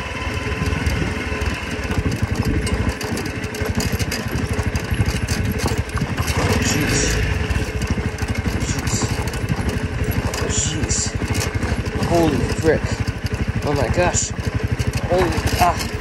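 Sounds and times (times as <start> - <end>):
motorcycle engine running at low speed: 0.0 - 16.0
small clicks and rattles: 0.0 - 16.0.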